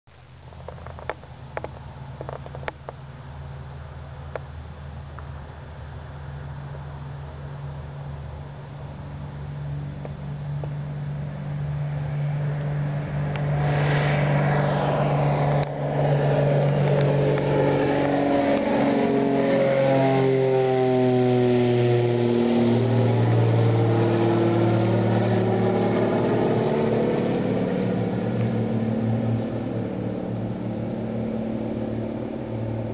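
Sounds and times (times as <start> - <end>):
propeller airplane taking off: 0.1 - 32.9.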